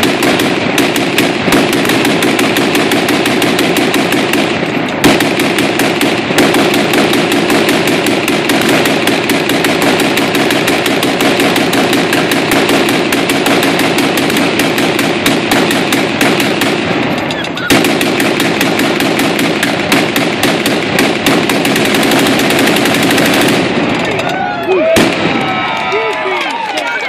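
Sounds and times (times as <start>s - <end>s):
gatling gun firing rapidly: 0.0s - 24.2s, 25.0s - 26.2s.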